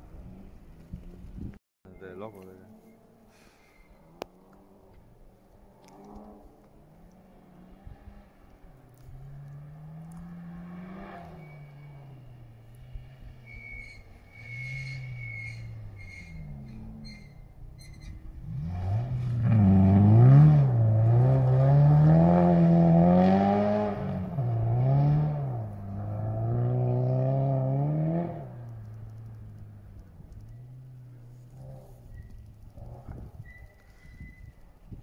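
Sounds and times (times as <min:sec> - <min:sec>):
rally car engine revving: 0:02.4 - 0:34.0.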